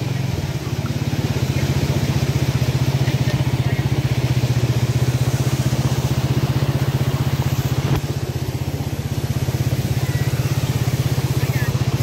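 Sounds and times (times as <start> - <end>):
motorcycle engine puttering: 0.0 - 12.0.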